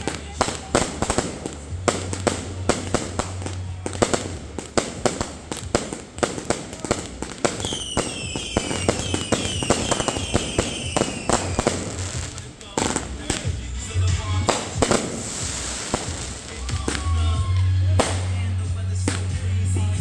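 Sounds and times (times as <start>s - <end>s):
fireworks banging: 0.0s - 20.0s
whistling fireworks: 0.0s - 20.0s.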